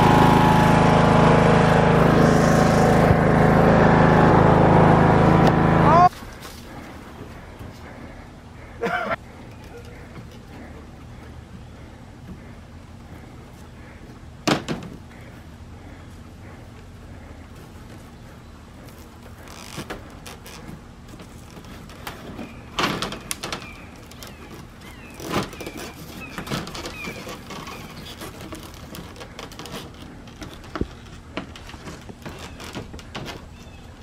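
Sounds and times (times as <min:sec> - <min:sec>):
wood creaking: 0:01.8 - 0:34.0.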